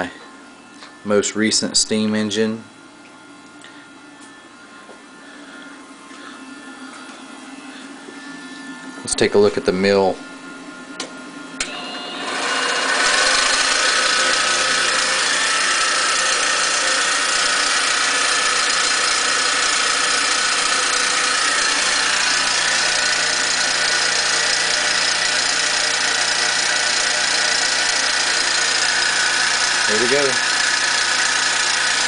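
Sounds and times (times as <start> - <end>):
mill spindle motor whining: 0.0 - 32.0.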